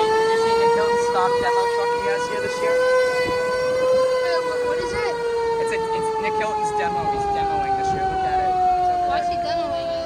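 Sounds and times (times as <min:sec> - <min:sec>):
fire truck siren wailing: 0:00.0 - 0:10.0.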